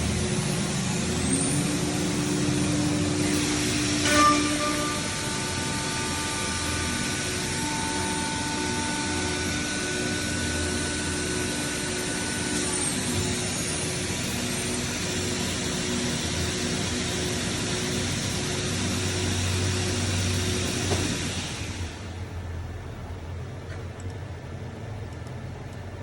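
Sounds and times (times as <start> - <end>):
cnc machine running: 0.0 - 23.3
spindle whine: 0.0 - 26.0.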